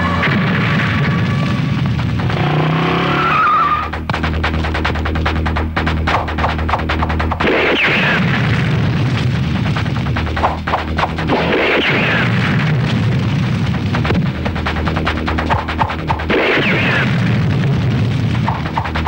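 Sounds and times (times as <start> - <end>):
action film score: 0.0 - 19.0
rumbling explosion booms: 0.2 - 3.0, 6.0 - 19.0
rapid clatter: 0.2 - 19.0.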